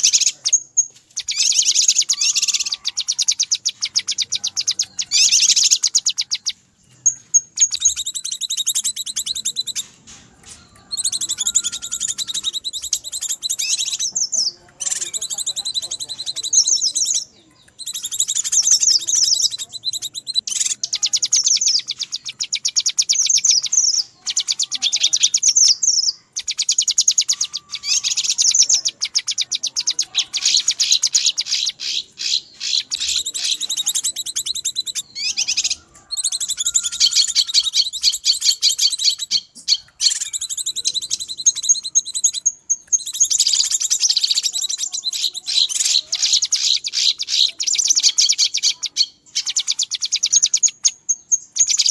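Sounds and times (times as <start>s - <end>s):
bird chattering high-pitched calls: 0.0s - 51.9s.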